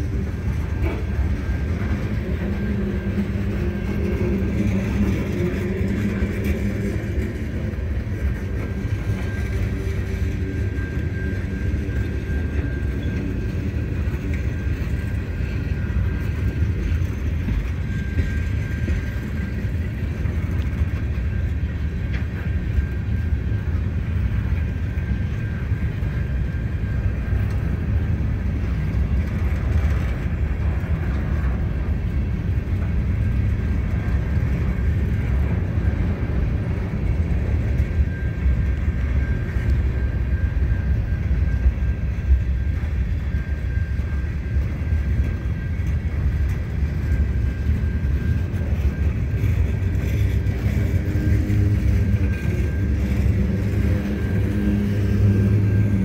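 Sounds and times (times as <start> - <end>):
faint high wheel squeal: 0.0 - 56.0
freight train wheels rumbling: 0.0 - 56.0.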